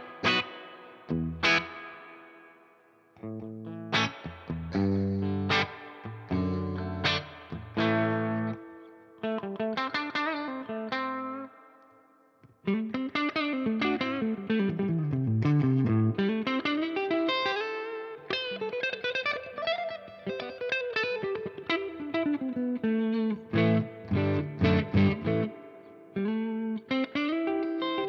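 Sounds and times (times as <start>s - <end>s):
overdriven electric guitar blues lead: 0.0s - 28.0s.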